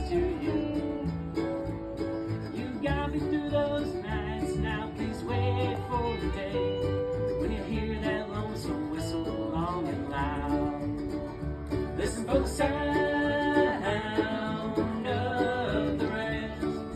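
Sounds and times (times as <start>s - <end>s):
acoustic bluegrass band playing: 0.0s - 16.9s.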